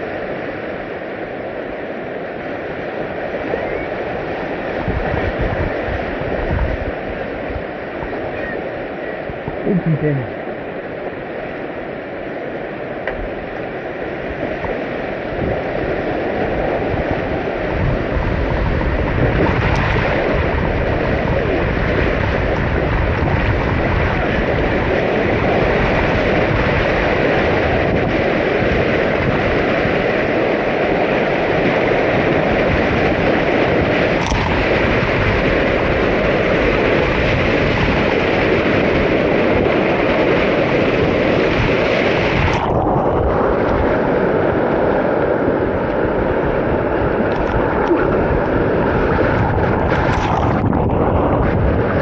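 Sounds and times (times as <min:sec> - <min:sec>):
whitewater rushing: 0:00.0 - 0:52.0
wind buffeting microphone: 0:00.0 - 0:52.0.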